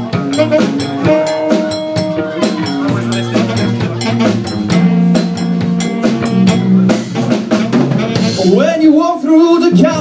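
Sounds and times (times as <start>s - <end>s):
electric guitar: 0.0s - 8.6s
drum kit beat: 0.0s - 10.0s
electric bass: 0.0s - 10.0s.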